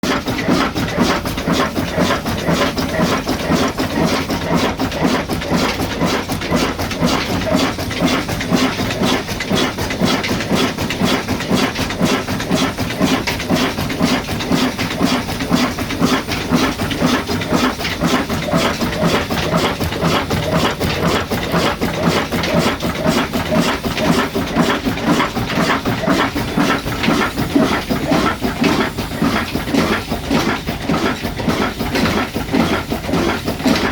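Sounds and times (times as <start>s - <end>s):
engine running with fast knocking: 0.0s - 33.9s.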